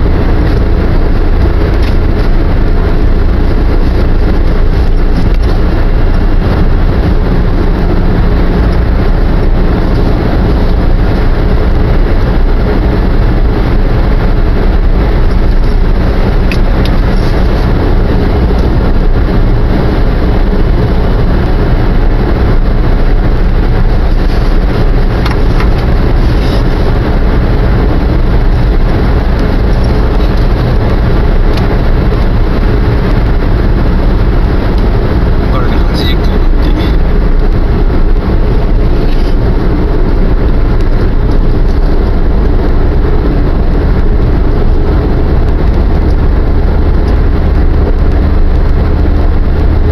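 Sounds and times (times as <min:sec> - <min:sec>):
engine drone: 0:00.0 - 0:49.9.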